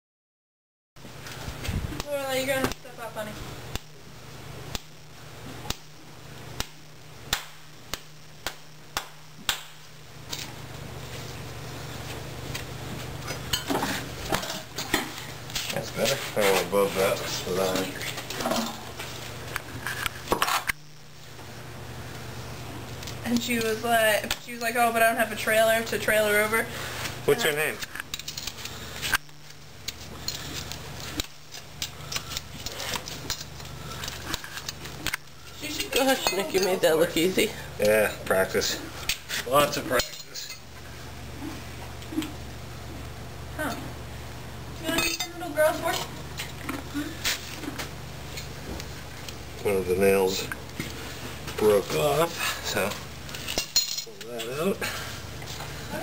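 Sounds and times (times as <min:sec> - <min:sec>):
steady low hum: 0:01.0 - 0:56.0.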